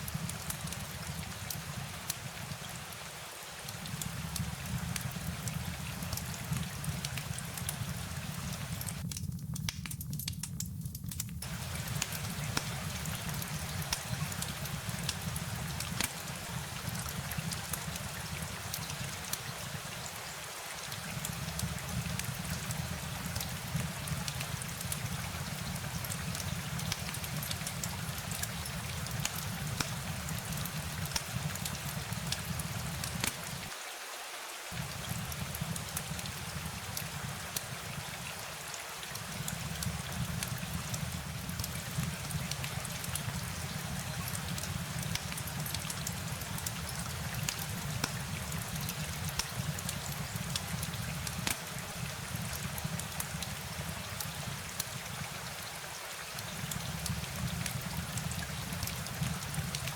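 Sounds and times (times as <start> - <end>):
rain drops ticking: 0.0 - 34.0, 34.6 - 59.9.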